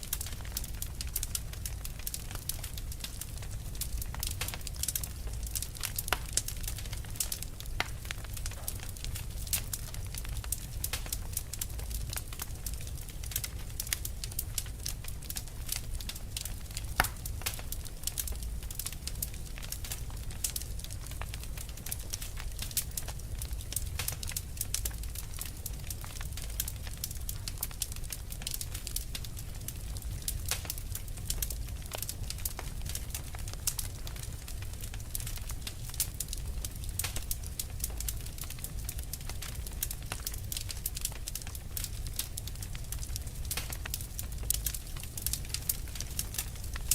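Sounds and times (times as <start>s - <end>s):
fire popping: 0.0s - 46.9s
wood fire crackling: 0.0s - 46.9s.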